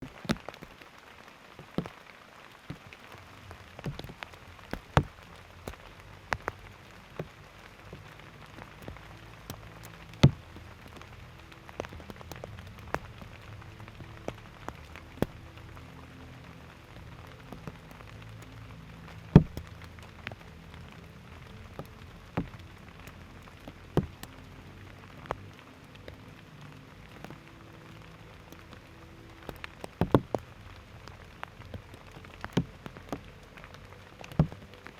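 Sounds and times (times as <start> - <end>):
faint low drone: 3.0 - 34.9.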